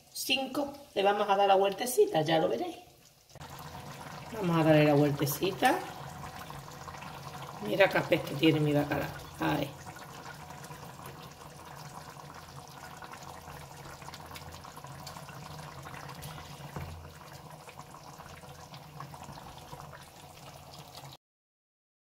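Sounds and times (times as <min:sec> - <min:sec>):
sauce simmering and bubbling: 0:00.0 - 0:21.2.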